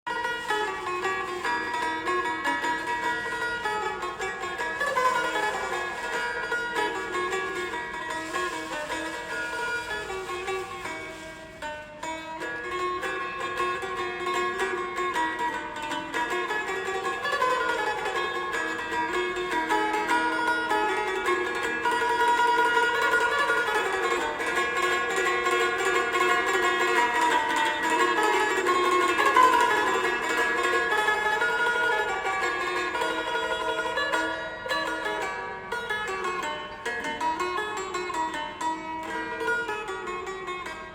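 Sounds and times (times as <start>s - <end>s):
plucked string instrument melody: 0.0s - 40.9s.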